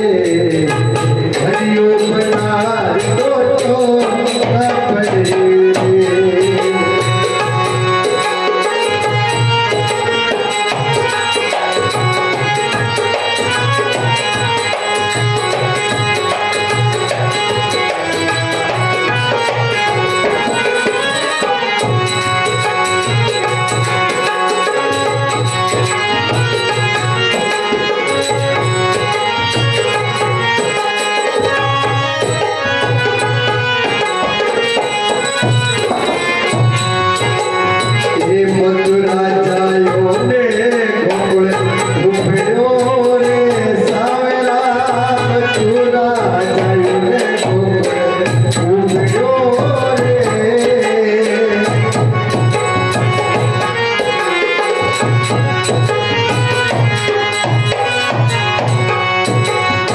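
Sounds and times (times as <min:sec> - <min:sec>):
tabla drum beat: 0:00.0 - 0:59.9.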